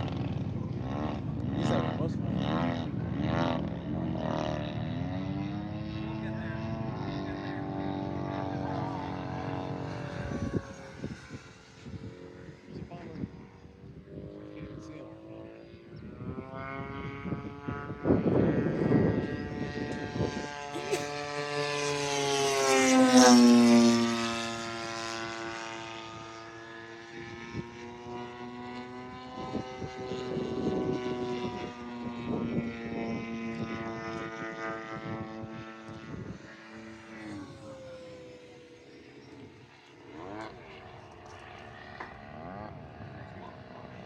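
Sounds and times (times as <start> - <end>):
model airplane droning: 0.0 - 44.0.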